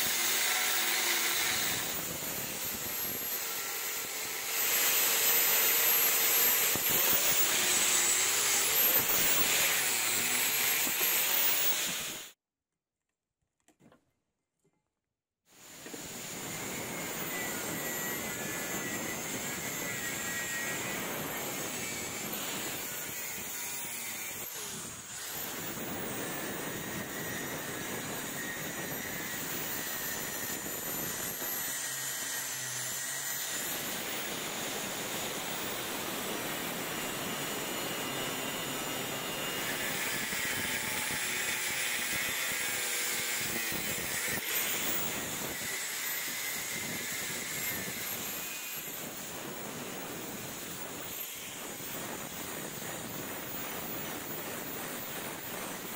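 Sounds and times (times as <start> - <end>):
angle grinder cutting steel: 0.0 - 12.4, 15.6 - 55.9.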